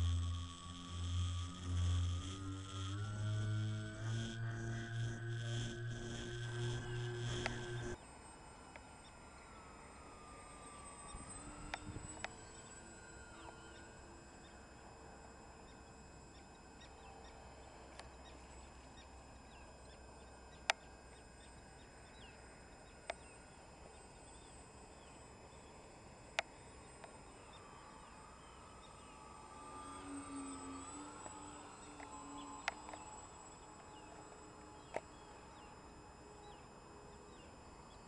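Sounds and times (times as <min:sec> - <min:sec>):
model aircraft electric motor whine: 0:00.0 - 0:38.0.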